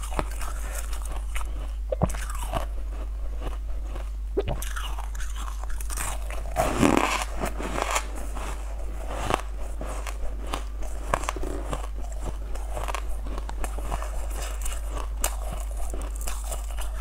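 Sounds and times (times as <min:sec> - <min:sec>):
crisp chewing crackles: 0:00.0 - 0:17.0
hard treat crunching: 0:00.0 - 0:17.0.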